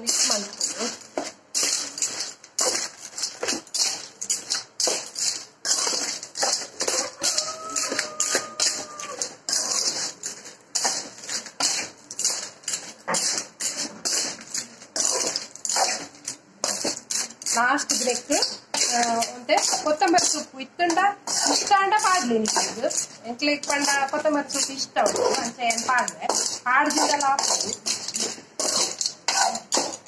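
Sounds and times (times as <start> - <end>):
clam shells clattering in a wok: 0.0 - 30.0.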